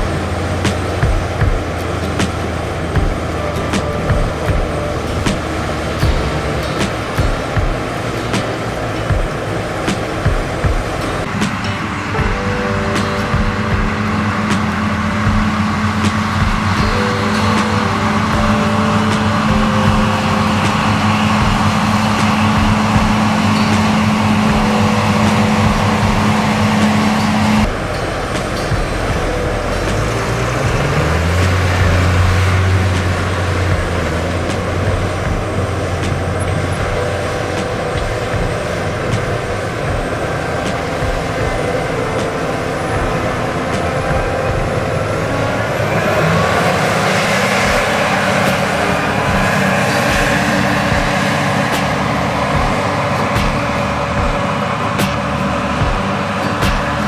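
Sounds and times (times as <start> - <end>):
loud steady noise: 0.0 - 57.0
vehicle engine running: 0.0 - 57.0.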